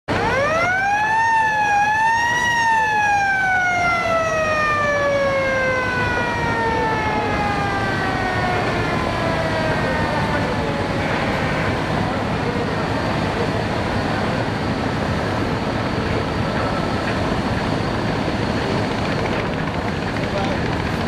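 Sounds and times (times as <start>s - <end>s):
boat siren: 0.1s - 19.5s.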